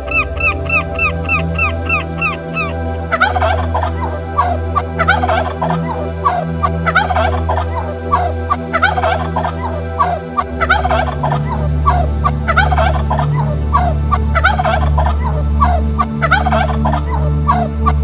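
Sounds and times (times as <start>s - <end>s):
birds calling: 0.0s - 18.0s
steady low hum: 0.0s - 18.0s.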